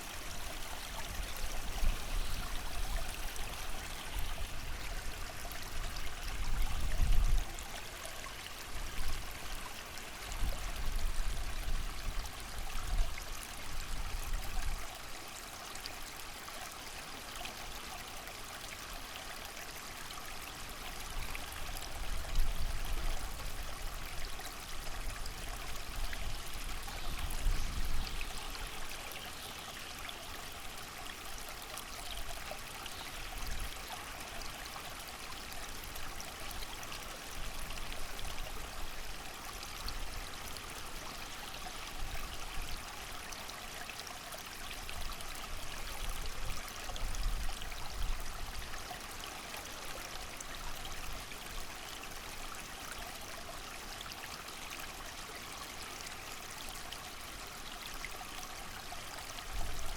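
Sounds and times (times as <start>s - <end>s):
creek running: 0.0s - 59.9s.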